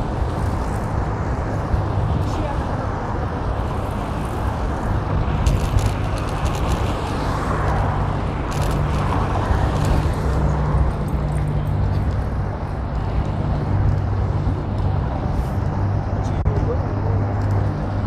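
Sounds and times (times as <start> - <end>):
faint road and street noise: 0.0 - 18.0
wind rumble on microphone: 0.0 - 18.0.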